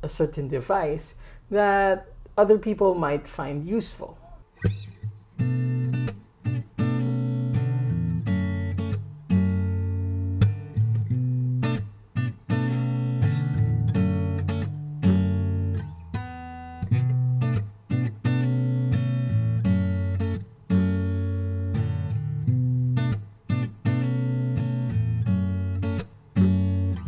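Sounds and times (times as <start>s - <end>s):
acoustic guitar chords: 2.4s - 27.0s.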